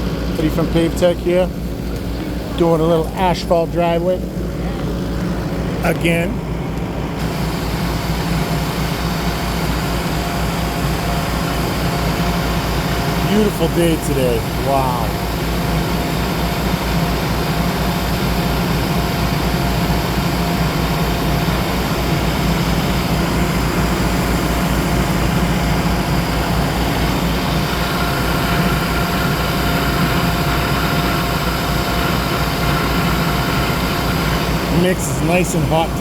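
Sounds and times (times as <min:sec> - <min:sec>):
diesel machinery engine drone: 0:00.0 - 0:36.0
high machine whine: 0:00.0 - 0:36.0.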